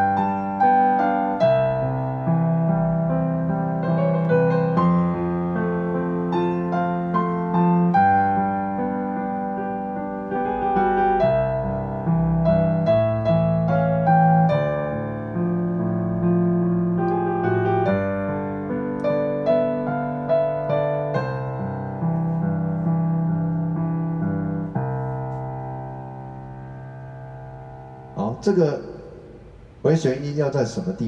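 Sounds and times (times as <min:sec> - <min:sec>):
slow piano melody: 0:00.0 - 0:31.0.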